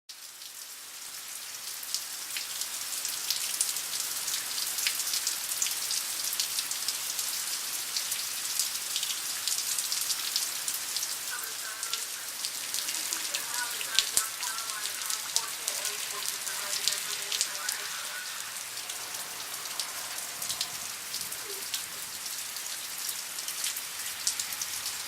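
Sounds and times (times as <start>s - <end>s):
heavy rain on hard surfaces: 0.1s - 25.0s.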